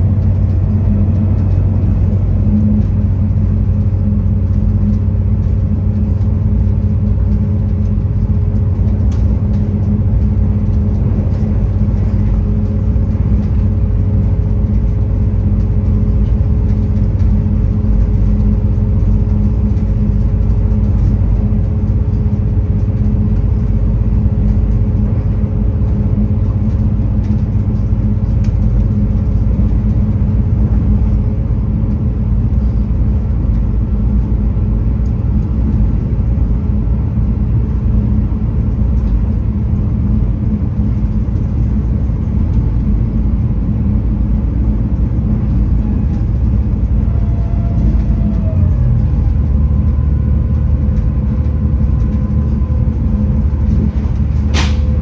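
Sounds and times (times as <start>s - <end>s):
low hum: 0.0s - 55.0s
railcar engine and wheels rumbling: 0.0s - 55.0s.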